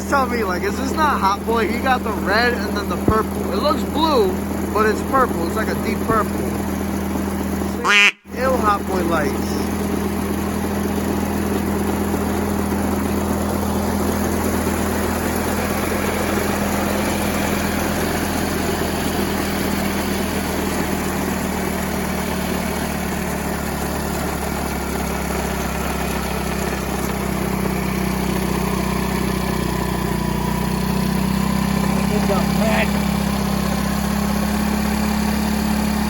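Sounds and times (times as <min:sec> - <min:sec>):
scooter engine idling: 0:00.0 - 0:36.0.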